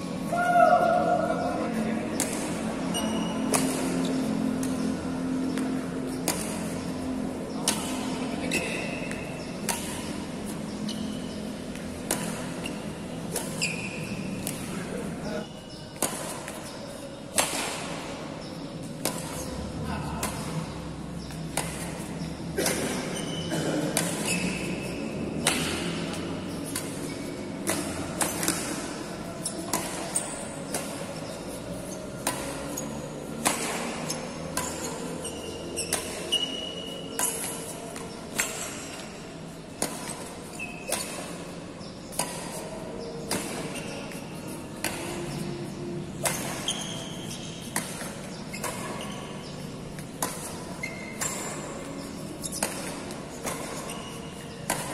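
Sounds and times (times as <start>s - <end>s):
badminton rackets hitting shuttlecocks: 0.2s - 54.9s.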